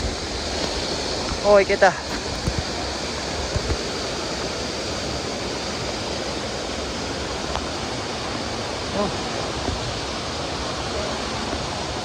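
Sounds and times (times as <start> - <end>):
mountain stream rushing over boulders: 0.0 - 12.0.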